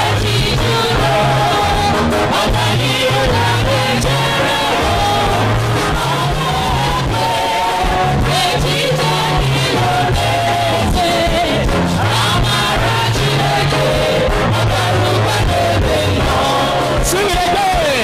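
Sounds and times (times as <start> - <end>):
repeating bass line: 0.0 - 18.0
voices singing together: 0.0 - 18.0.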